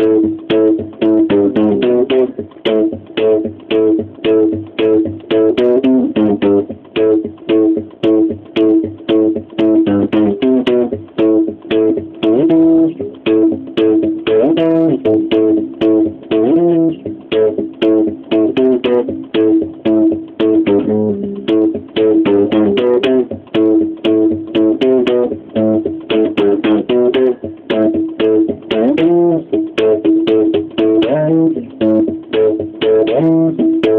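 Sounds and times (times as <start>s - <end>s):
electric bass guitar riff: 0.0s - 33.9s.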